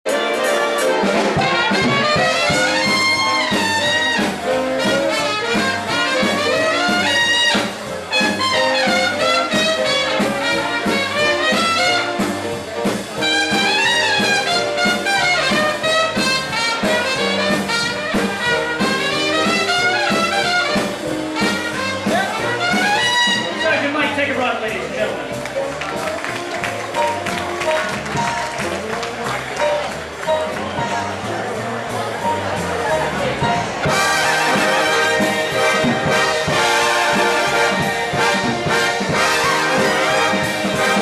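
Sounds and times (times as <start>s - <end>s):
swing jazz with horns: 0.0s - 41.0s.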